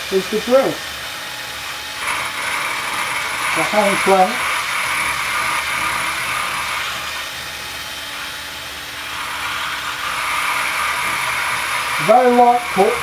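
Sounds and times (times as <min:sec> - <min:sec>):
cordless drill running: 0:00.0 - 0:13.0.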